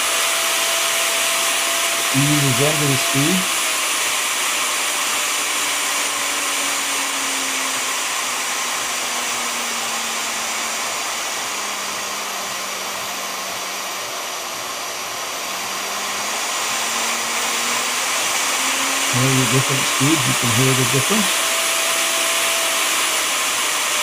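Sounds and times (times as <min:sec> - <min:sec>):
router motor whining: 0:00.0 - 0:24.0.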